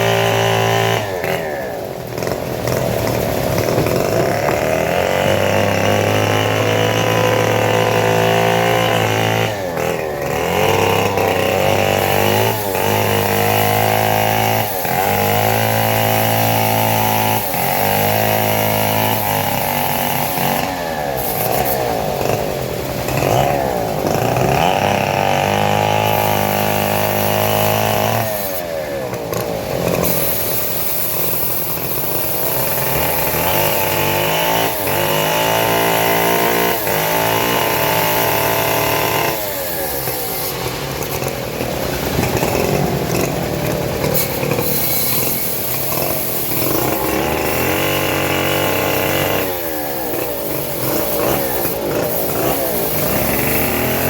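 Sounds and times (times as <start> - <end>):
engine saw cutting wood: 0.0 - 54.0.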